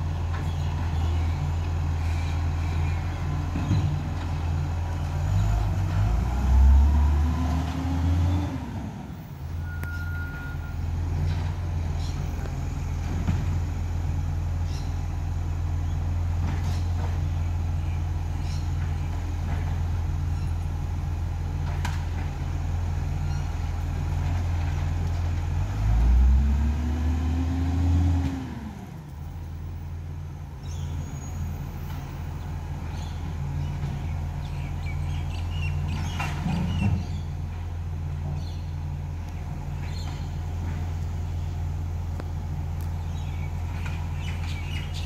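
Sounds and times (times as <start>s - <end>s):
diesel engine idling and revving: 0.0s - 45.0s.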